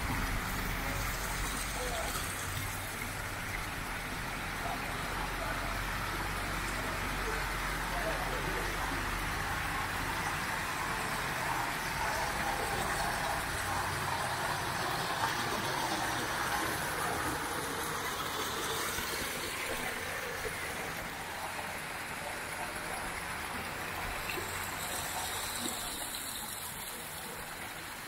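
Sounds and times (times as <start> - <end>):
steady rushing street noise: 0.0 - 28.0.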